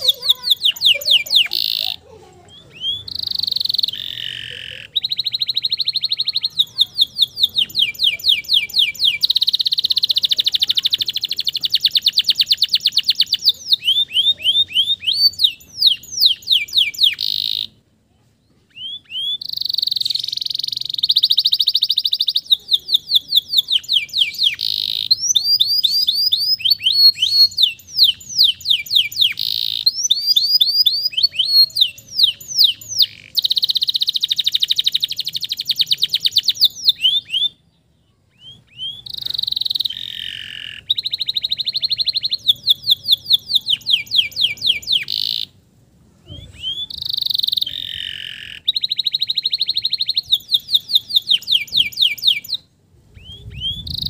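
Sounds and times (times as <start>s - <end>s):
canary singing trills: 0.0s - 17.9s, 18.5s - 54.0s.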